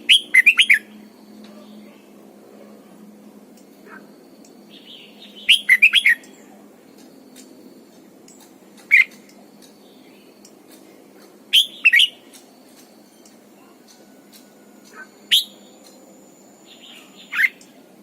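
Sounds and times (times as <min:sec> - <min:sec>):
bird singing chirping phrases: 0:00.0 - 0:03.0, 0:03.6 - 0:18.0.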